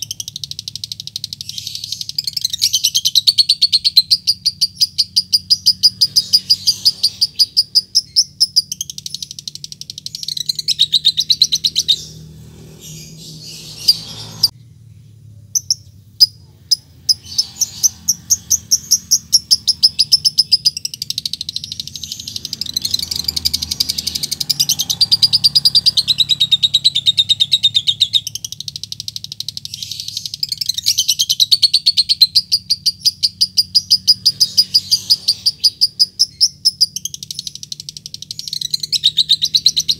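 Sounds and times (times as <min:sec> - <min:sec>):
lovebird shrill chirping: 0:00.0 - 0:14.6, 0:15.5 - 0:39.9.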